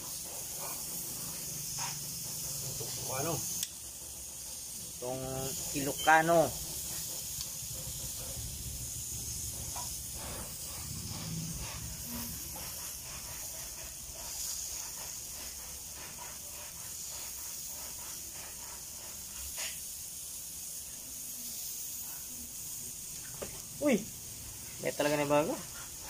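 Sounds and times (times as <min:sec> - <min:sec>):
meat sizzling on a grill: 0:00.0 - 0:26.0.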